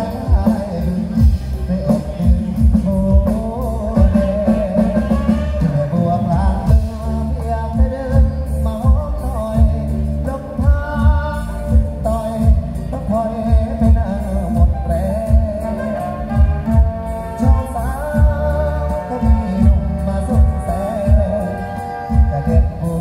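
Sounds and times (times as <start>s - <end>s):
song through loud outdoor speakers: 0.0s - 23.0s.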